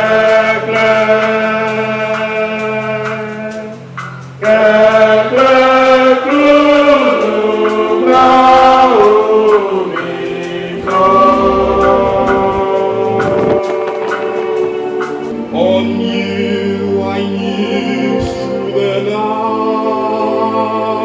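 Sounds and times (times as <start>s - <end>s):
voices singing church music: 0.0s - 21.0s.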